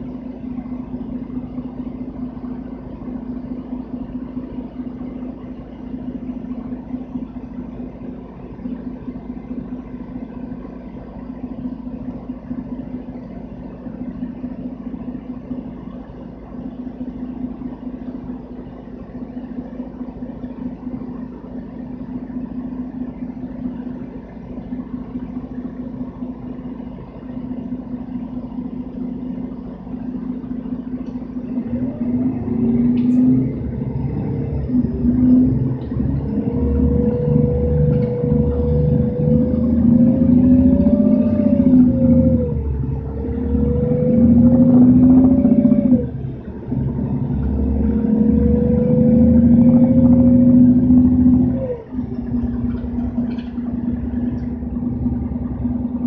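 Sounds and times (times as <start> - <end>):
bus diesel engine: 0.0 - 56.0
rising engine whine: 0.0 - 56.0.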